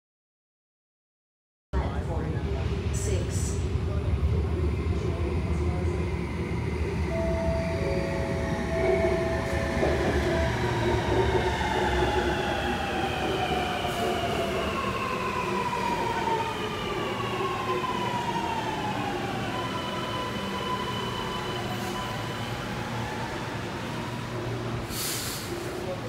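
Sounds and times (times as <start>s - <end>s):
low rumble of train: 1.8s - 26.0s
train electric whine: 3.6s - 26.0s.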